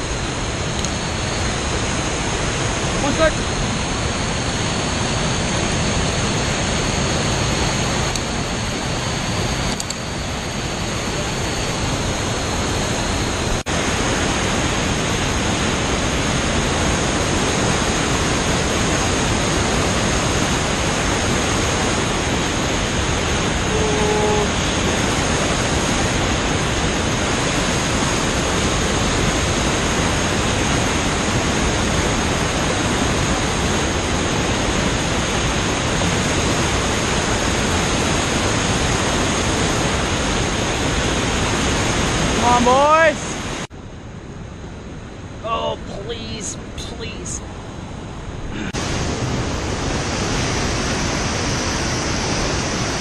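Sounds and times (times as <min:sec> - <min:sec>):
whitewater rapids roaring: 0:00.0 - 0:43.7.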